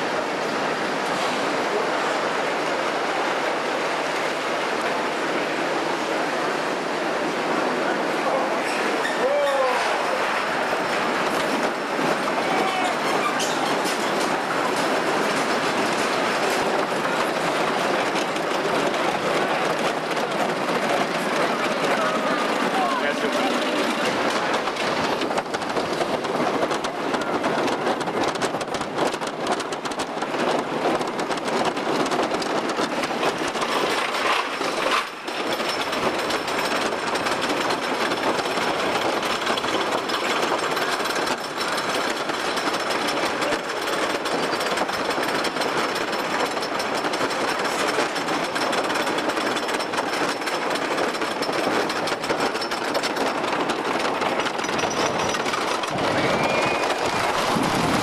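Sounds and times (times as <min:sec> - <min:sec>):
roller coaster clattering on track: 0:00.0 - 0:58.0.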